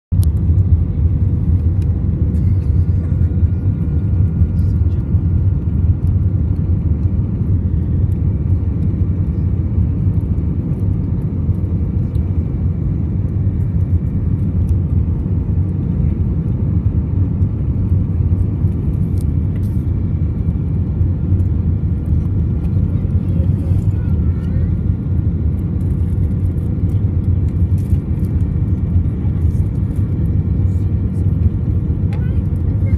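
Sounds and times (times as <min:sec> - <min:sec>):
airflow and jet engines rumbling: 0:00.1 - 0:32.9.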